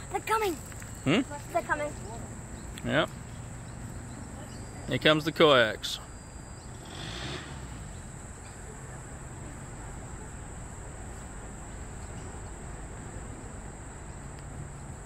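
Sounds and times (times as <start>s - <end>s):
insect chorus droning: 0.0s - 15.0s.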